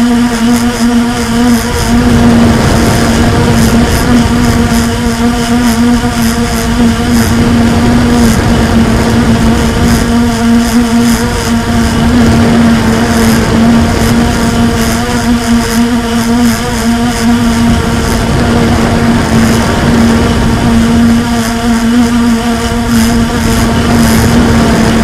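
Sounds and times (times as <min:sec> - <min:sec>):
quadcopter propellers droning: 0:00.0 - 0:25.0.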